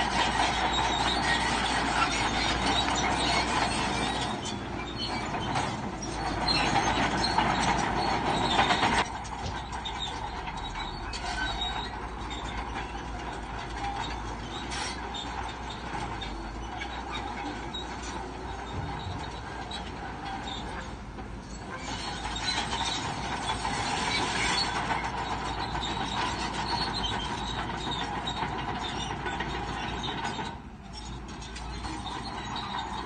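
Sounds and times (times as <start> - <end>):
bulldozer engine running: 0.0 - 33.0
bulldozer tracks clanking and squealing: 0.0 - 33.0.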